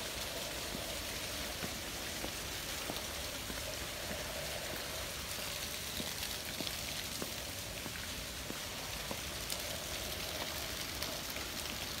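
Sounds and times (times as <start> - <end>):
fountain jets splashing into pool: 0.0 - 12.0.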